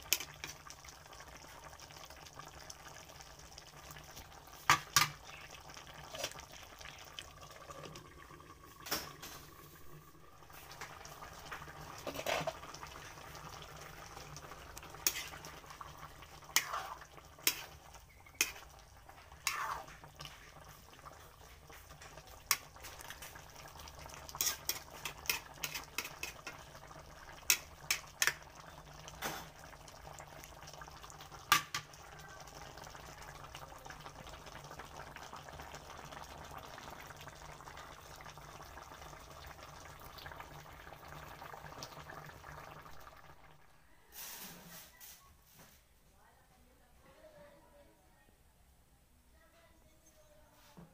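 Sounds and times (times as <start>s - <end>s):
stew bubbling in a wok: 0.0s - 44.8s.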